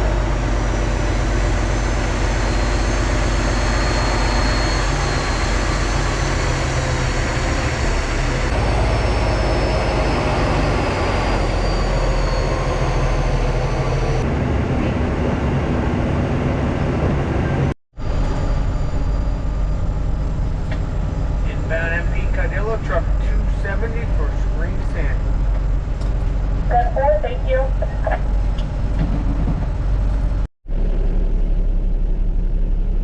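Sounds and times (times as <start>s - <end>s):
dump truck engine drone: 0.0s - 33.0s
road noise: 0.0s - 33.0s.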